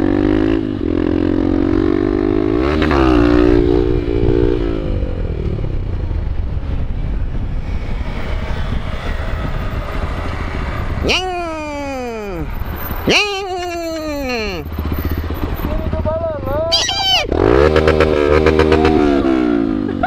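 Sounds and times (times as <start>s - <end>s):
motorcycle engine revving: 0.0s - 20.0s
wind and road noise: 0.0s - 20.0s.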